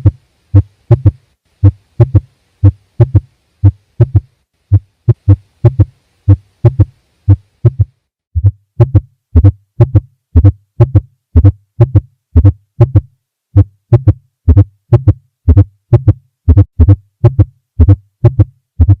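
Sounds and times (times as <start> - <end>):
fast heartbeats: 0.0 - 19.0.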